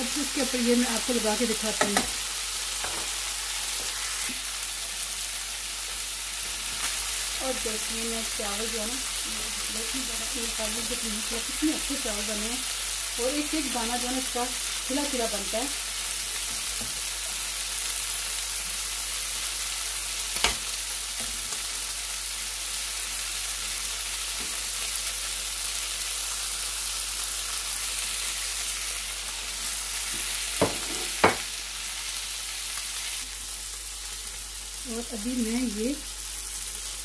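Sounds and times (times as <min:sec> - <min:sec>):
chicken sizzling in oil: 0:00.0 - 0:37.0.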